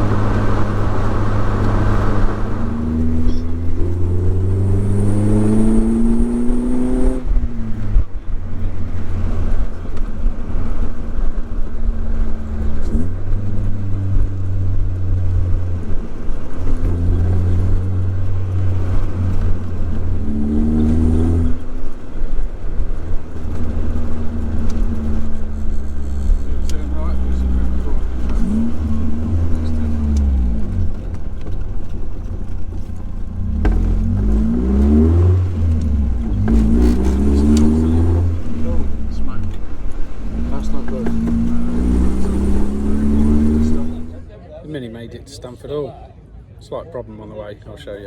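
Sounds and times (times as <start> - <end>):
car engine accelerating: 0.0 - 44.6.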